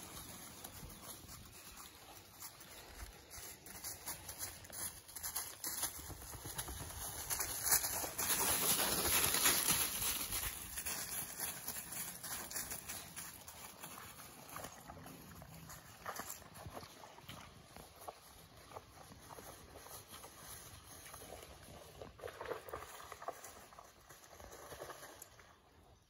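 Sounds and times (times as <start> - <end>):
dog paws rustling dry leaves: 0.0 - 25.1.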